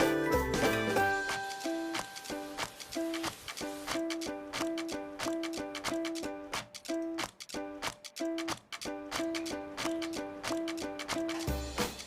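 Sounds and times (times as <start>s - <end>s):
bouncy music with light beat: 0.0s - 12.0s.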